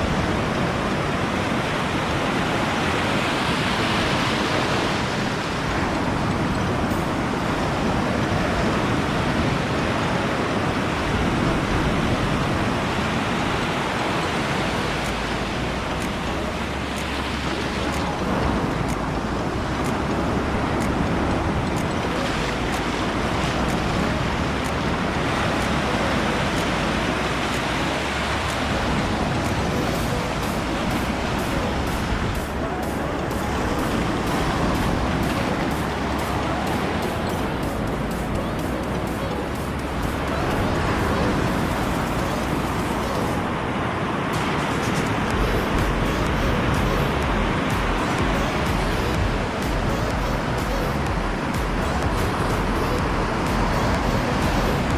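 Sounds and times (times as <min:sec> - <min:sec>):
surf breaking on a beach: 0:00.0 - 0:49.7
wind: 0:00.0 - 0:54.9.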